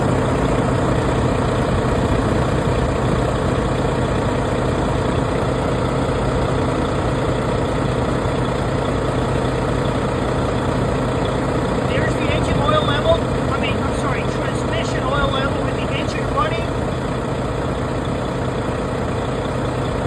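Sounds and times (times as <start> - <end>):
heavy truck engine idling: 0.0 - 20.0.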